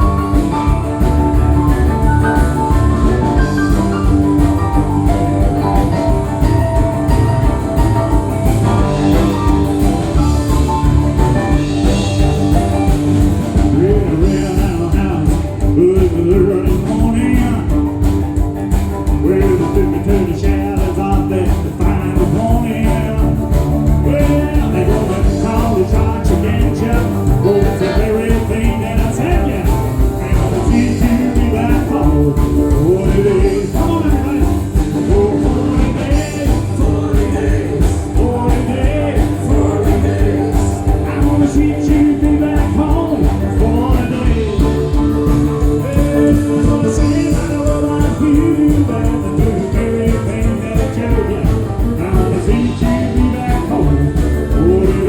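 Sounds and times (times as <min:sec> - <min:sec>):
live rock and roll band: 0:00.0 - 0:55.0.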